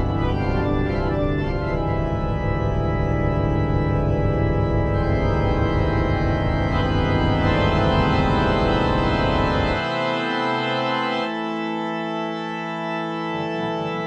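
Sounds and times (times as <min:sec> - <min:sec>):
organ sustained chords: 0:00.0 - 0:14.0.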